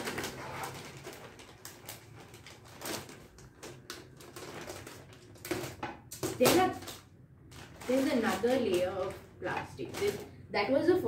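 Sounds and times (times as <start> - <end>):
plastic film crinkling: 0.0 - 10.5.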